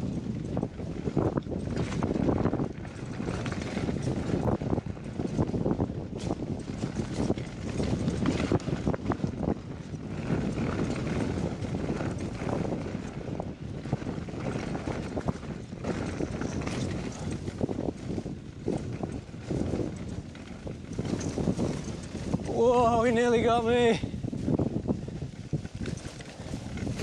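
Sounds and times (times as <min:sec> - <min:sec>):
bike rattling and knocking: 0:00.0 - 0:27.0
bike tyres rumbling over dirt: 0:00.0 - 0:27.0.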